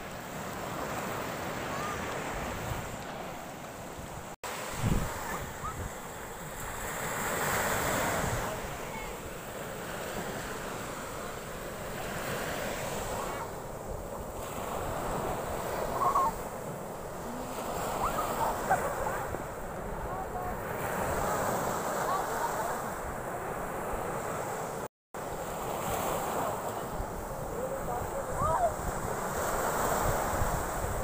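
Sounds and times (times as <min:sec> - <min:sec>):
surf breaking on beach: 0:04.2 - 0:31.0.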